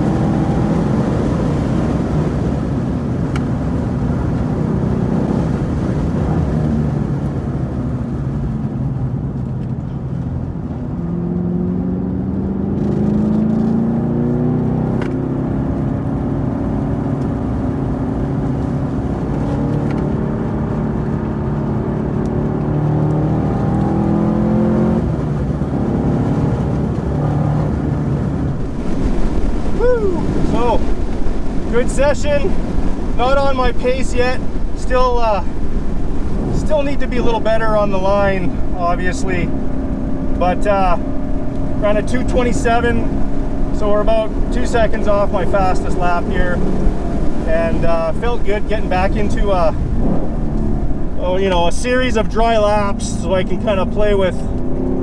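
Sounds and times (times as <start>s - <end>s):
car engine running under load: 0.0s - 55.0s.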